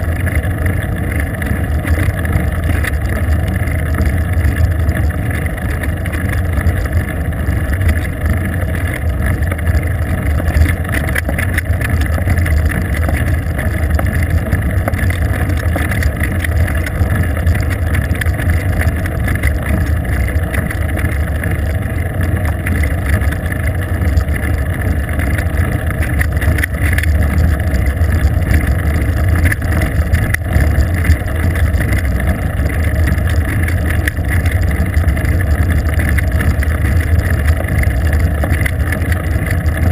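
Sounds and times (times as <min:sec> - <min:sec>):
tyre road noise on asphalt: 0:00.0 - 0:39.9.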